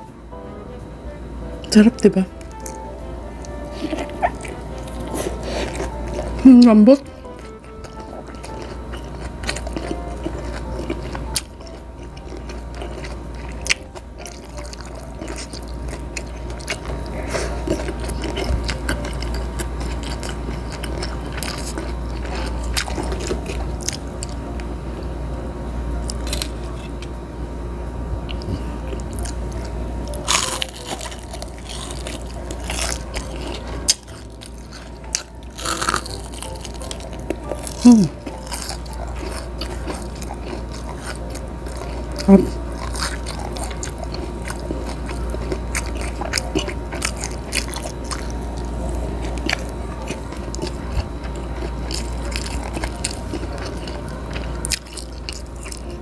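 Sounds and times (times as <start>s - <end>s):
person chewing food: 2.3s - 25.1s, 26.0s - 27.1s, 28.2s - 56.0s.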